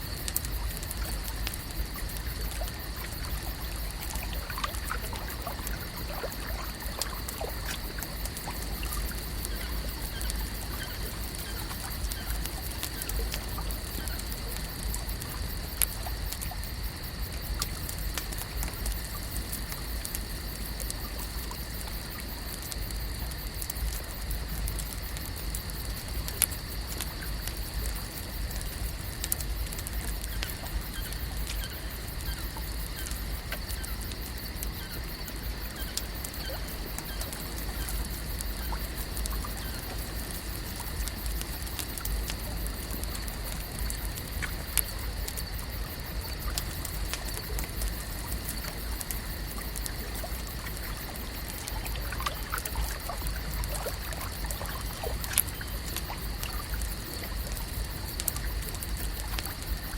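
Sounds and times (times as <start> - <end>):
small ticks and clicks: 0.0 - 59.9
water lapping and trickling: 0.1 - 59.9.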